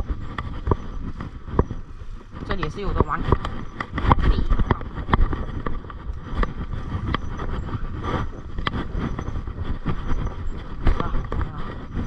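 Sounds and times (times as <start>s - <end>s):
bike clicks and rattles: 0.0s - 12.0s
bike tyres rumbling on dirt: 0.0s - 12.0s.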